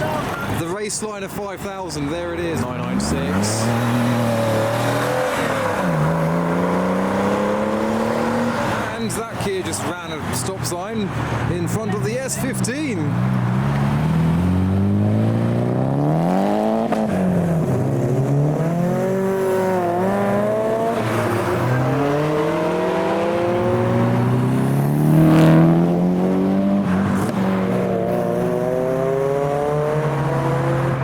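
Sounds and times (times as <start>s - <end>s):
car engine revving through gears: 2.4s - 9.3s, 12.2s - 31.0s.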